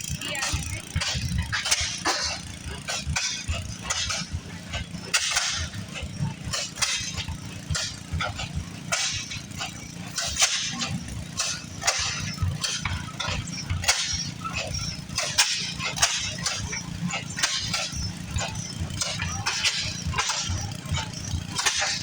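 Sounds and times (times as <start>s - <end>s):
antique engines rumbling: 0.0s - 22.0s
sharp clicks and knocks: 0.0s - 22.0s.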